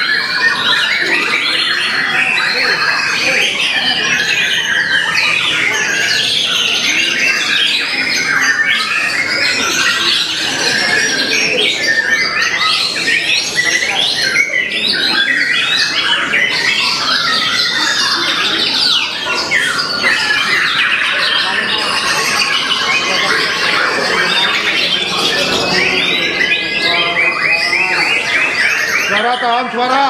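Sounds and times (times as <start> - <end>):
birds singing in chorus: 0.0 - 30.0.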